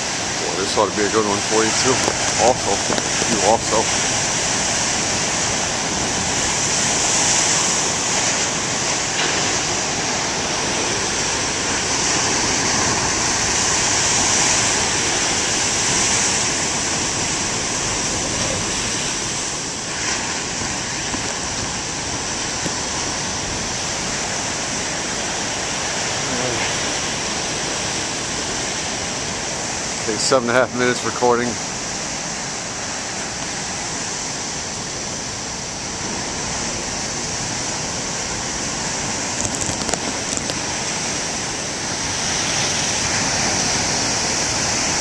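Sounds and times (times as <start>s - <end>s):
ocean waves breaking: 0.0s - 45.0s.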